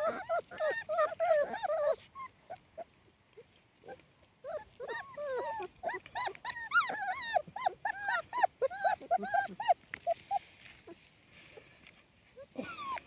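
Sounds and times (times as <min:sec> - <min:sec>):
puppies whimpering: 0:00.0 - 0:11.6, 0:12.2 - 0:13.0.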